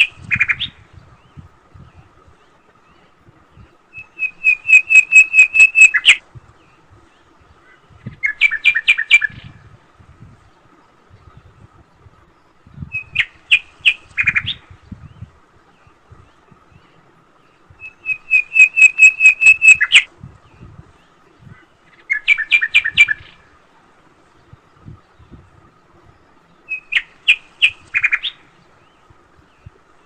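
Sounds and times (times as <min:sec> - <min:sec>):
bird chirping: 0:00.0 - 0:09.6, 0:10.8 - 0:23.4, 0:26.0 - 0:30.0.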